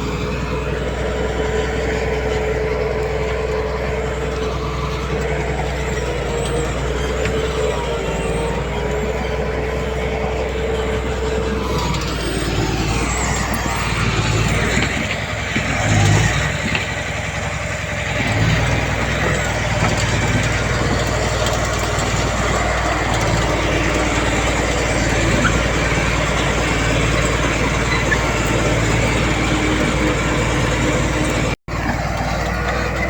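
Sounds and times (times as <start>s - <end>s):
heavy diesel engines running: 0.0s - 33.0s.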